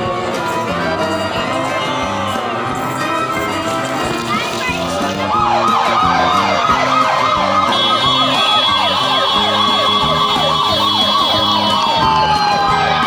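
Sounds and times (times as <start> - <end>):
electronic yelp sirens: 0.0 - 13.0
music with a bass line: 0.0 - 13.0.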